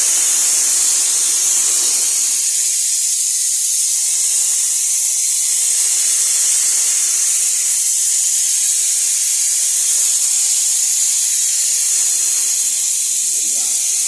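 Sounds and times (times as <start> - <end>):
high-pitched spray jet hiss: 0.0 - 14.0.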